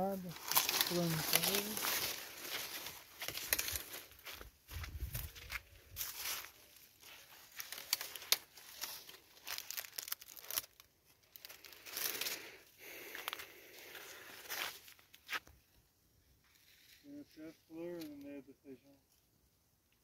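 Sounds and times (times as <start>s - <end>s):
dry corn leaves rustling: 0.0s - 15.5s, 16.4s - 18.4s.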